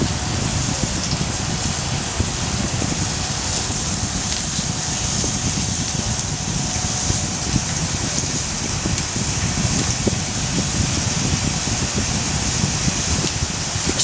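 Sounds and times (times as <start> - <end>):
fire crackles: 0.0 - 14.0
wood fire hissing: 0.0 - 14.0.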